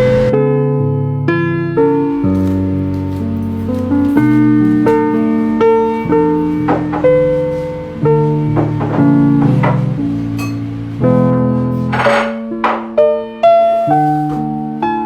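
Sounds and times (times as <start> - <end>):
piano-like keyboard chords: 0.0 - 15.0.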